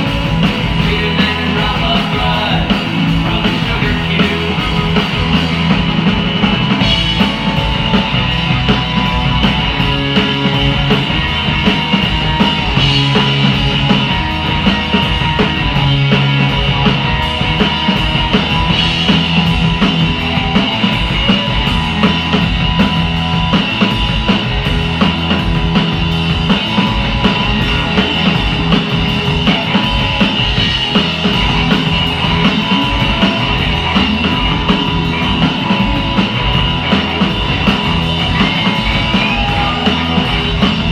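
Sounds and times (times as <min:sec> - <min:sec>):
rock band playing live: 0:00.0 - 0:40.9
steady drum beat: 0:00.0 - 0:40.9.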